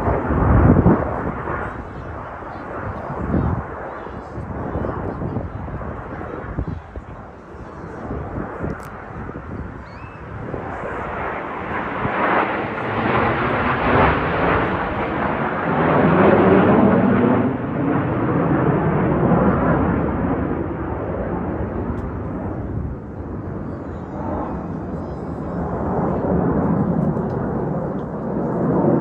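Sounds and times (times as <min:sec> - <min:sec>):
jet aircraft passing: 0:00.0 - 0:29.0.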